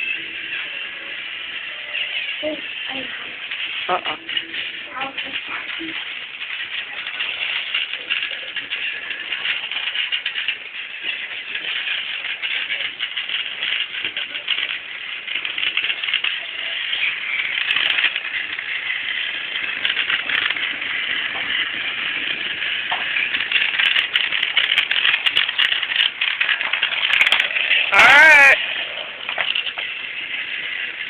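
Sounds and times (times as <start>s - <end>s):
toy train clicking rattle: 0.0s - 31.0s.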